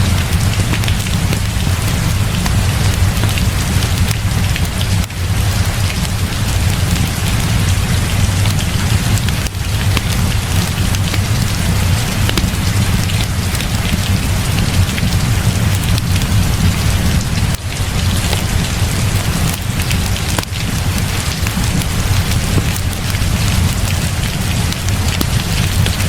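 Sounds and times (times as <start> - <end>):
continuous low rumble: 0.0 - 26.0
heavy rain falling: 0.0 - 26.0.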